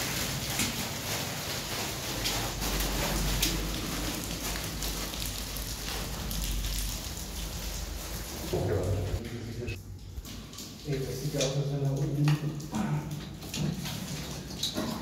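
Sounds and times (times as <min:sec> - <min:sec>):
water falling down a shaft: 0:00.0 - 0:15.0.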